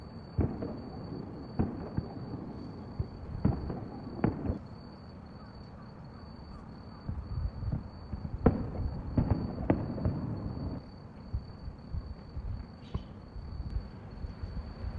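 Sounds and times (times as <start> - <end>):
fireworks booming: 0.0 - 4.9, 6.9 - 14.9.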